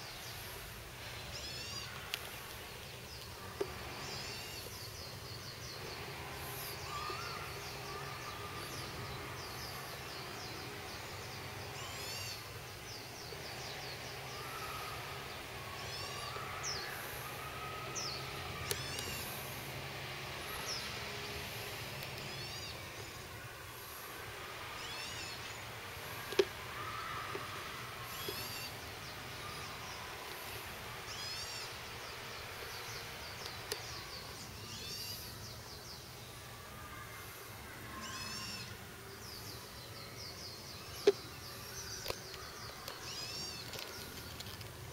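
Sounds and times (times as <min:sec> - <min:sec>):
birds singing and chirping: 0:00.0 - 0:44.9.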